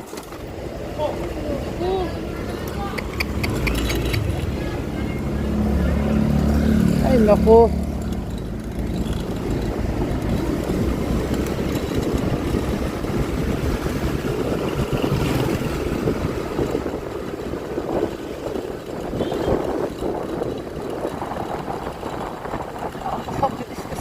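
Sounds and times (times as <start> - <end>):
passing traffic: 0.0 - 24.0
scooter engine: 0.0 - 24.0
wind and road noise: 0.0 - 24.0.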